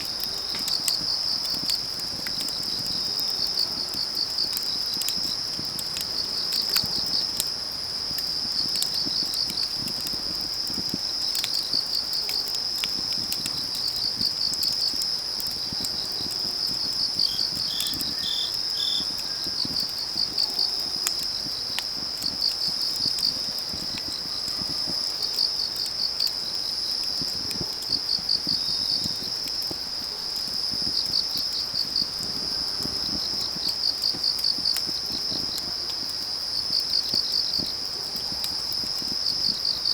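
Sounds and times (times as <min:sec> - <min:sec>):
burning firewood crackling: 0:00.0 - 0:39.9
crickets trilling: 0:00.0 - 0:39.9.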